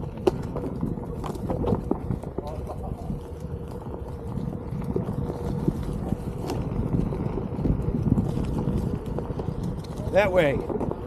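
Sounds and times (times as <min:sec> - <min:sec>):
electric motor whine: 0:00.0 - 0:11.0
wind on microphone: 0:00.0 - 0:11.0.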